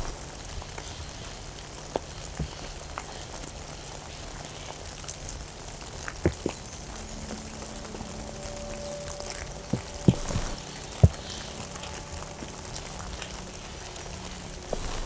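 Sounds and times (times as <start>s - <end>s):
light rain hiss: 0.0s - 15.0s
raindrops landing close: 0.0s - 15.0s.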